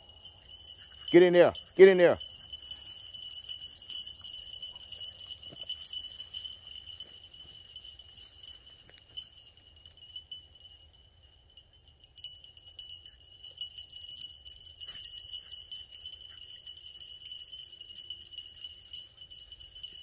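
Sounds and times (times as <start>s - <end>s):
faint ticking and jingling: 0.0s - 20.0s.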